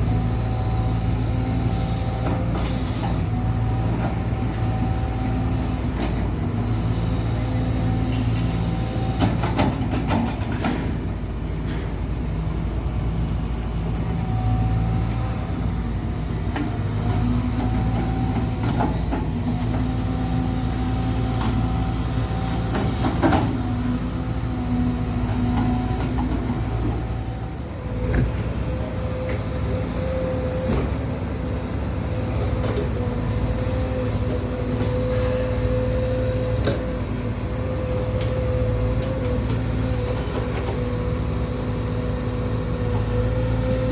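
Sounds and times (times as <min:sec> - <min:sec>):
heavy machine humming: 0:00.0 - 0:43.9.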